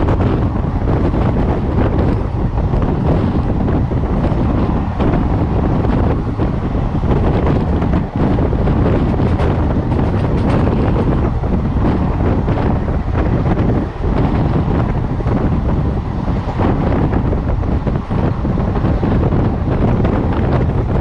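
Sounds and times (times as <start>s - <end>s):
train rumbling along track: 0.0s - 21.0s
wind buffeting microphone: 0.0s - 21.0s.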